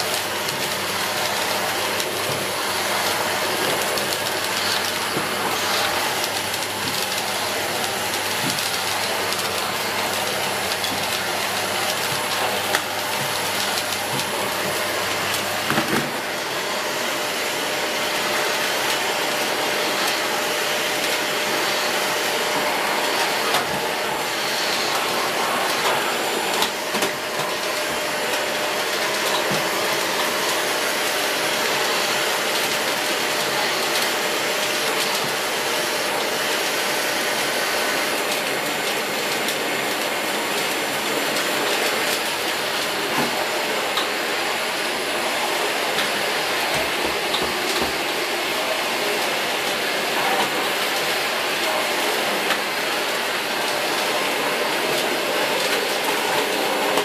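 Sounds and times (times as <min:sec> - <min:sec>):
vacuum cleaner running with whine: 0:00.0 - 0:57.0.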